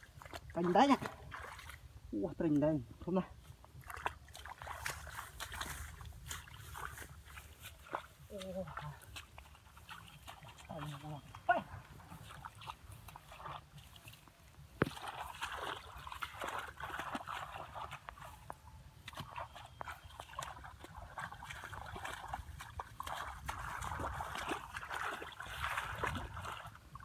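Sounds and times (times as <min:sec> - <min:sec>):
splashing in muddy water: 0:00.0 - 0:27.0.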